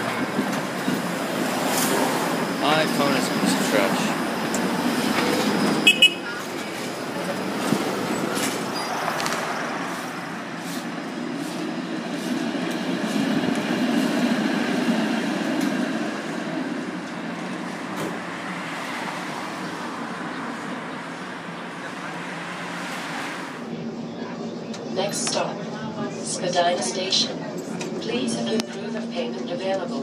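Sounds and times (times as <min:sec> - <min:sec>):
street traffic: 0:00.0 - 0:30.0
streetcar passing on rails: 0:00.0 - 0:30.0.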